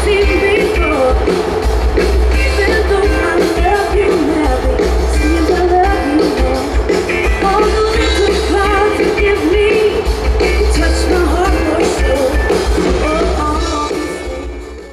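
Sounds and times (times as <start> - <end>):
person singing: 0.0 - 1.5, 2.3 - 14.9
bass: 0.0 - 14.9
drums: 0.0 - 14.9
electric guitars: 0.0 - 14.9.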